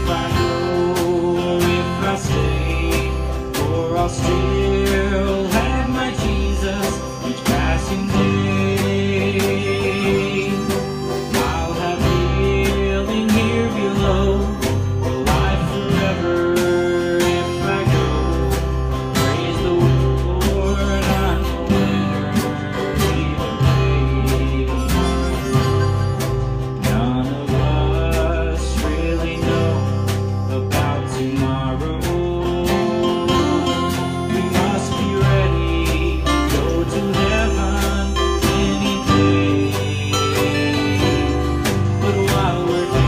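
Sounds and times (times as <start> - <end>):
harmonica melody: 0.0 - 43.0
strummed acoustic guitars: 0.0 - 43.0
walking bass line: 0.0 - 43.0.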